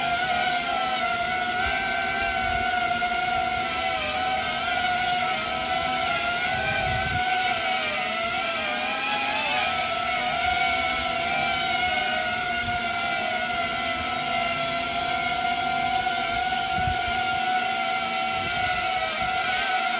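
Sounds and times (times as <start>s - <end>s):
drone propellers whining: 0.0s - 19.9s.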